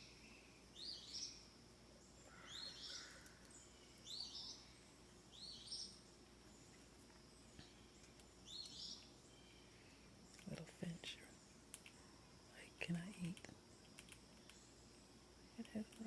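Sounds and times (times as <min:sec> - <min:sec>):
songbird calling: 0:00.0 - 0:13.4.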